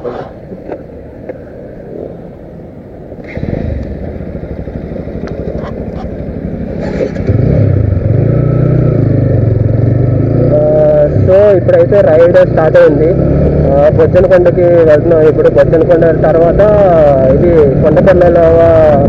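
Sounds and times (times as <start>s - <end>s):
motorcycle engine running: 3.2s - 19.0s.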